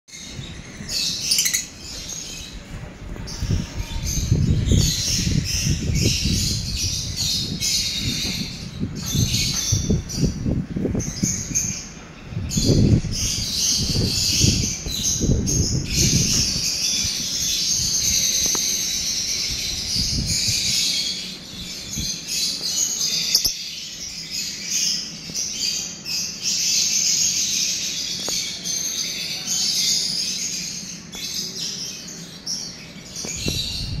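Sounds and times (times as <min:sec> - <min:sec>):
lovebird chirping: 0:00.1 - 0:02.6, 0:03.3 - 0:34.0.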